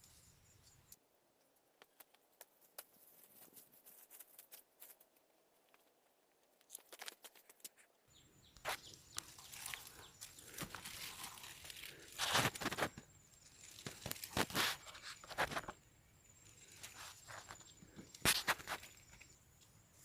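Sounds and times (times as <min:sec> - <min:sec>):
rustling and crackling: 0:01.4 - 0:08.0, 0:08.6 - 0:20.0.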